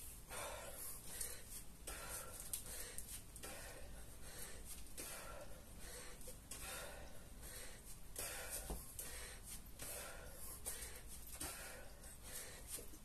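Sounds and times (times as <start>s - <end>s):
man breathing hard: 0.0s - 13.0s.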